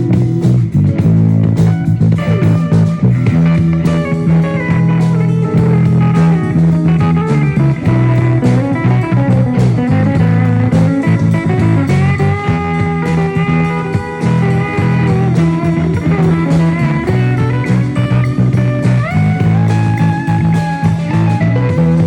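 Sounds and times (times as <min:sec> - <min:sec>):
blues rock electric guitar: 0:00.0 - 0:22.0
low bass notes: 0:00.0 - 0:22.0.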